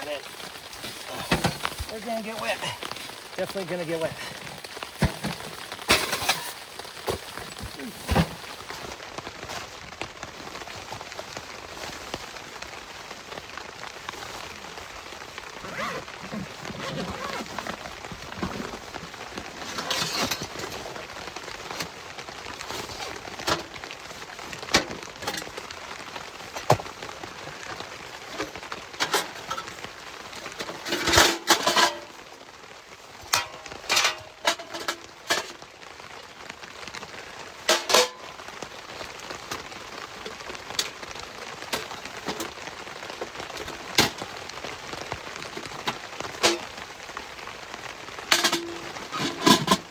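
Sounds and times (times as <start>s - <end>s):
heavy rain on tent fabric: 0.0s - 49.9s.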